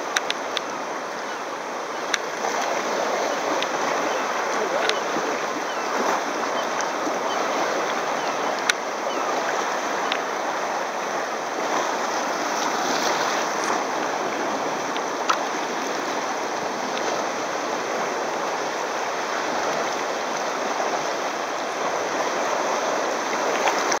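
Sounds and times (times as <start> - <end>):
water sloshing around kayak: 0.0 - 24.0
waves washing over rocks: 0.0 - 24.0.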